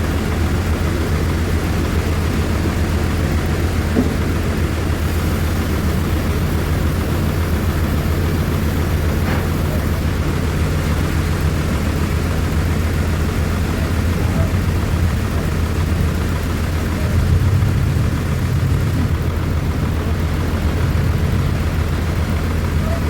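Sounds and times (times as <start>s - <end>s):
sawmill machine droning: 0.0s - 23.0s.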